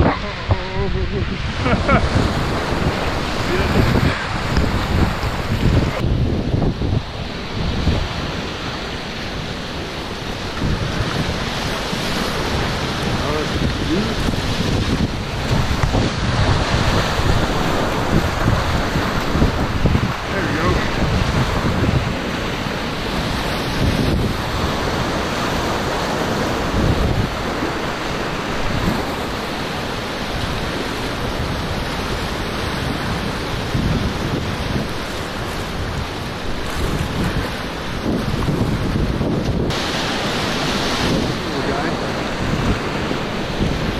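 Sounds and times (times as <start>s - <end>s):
whitewater rapids rushing: 0.0s - 6.1s, 6.8s - 43.9s
water splashing surges: 0.0s - 43.9s
wind noise on microphone: 0.0s - 43.9s.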